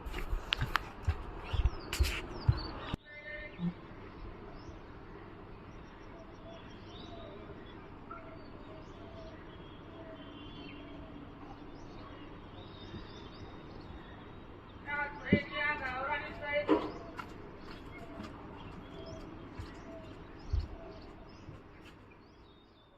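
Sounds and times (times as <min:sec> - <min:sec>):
faint birds chirping: 0:00.0 - 0:22.9.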